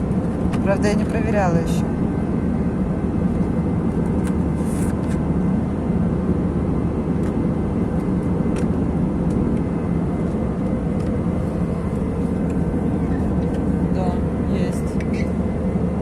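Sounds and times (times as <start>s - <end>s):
airliner engine and airflow drone: 0.0s - 16.0s.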